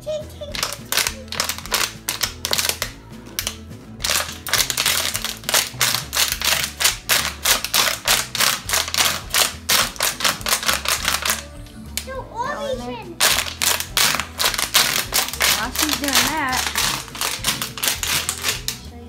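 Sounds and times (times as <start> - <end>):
plastic bottle crackling clicks: 0.6 - 12.1, 13.2 - 18.8.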